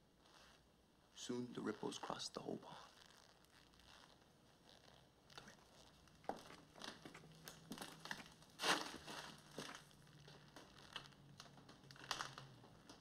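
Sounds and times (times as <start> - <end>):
clothing rustling: 0.2 - 13.0.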